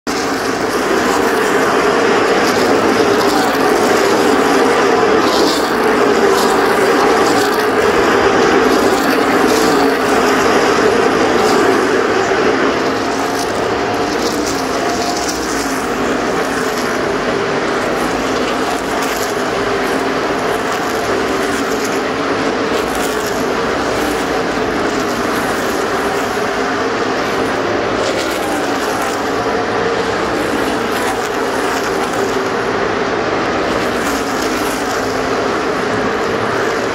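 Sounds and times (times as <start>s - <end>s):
race car engines droning: 0.0s - 36.9s.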